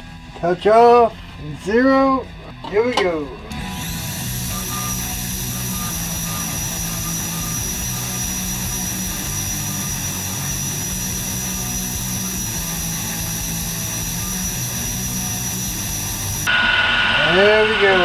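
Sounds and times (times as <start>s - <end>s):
milling machine high whine: 2.8s - 18.0s.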